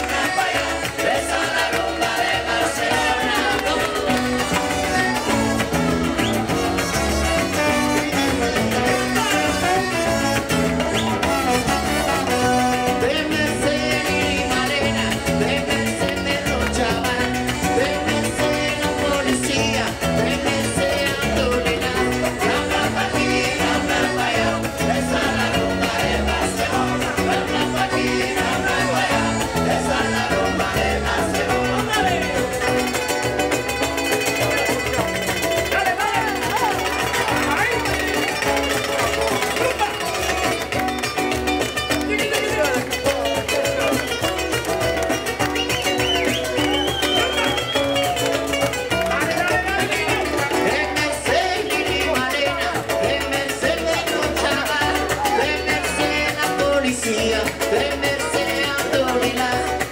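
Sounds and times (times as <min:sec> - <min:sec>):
live band playing latin music: 0:00.0 - 0:59.9.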